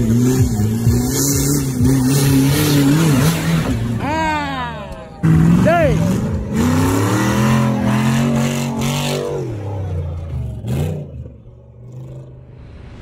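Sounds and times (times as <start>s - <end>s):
buggy engine revving: 0.0s - 12.9s.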